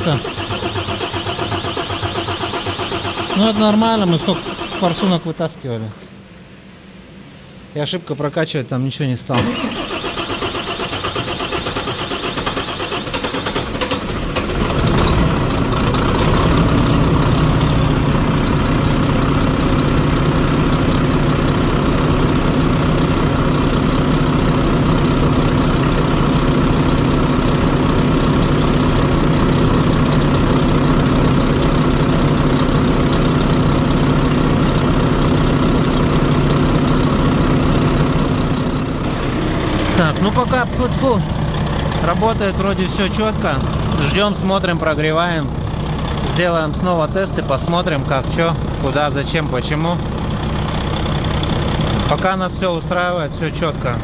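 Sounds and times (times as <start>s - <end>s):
diesel engine idling: 0.0s - 6.4s, 9.3s - 54.0s.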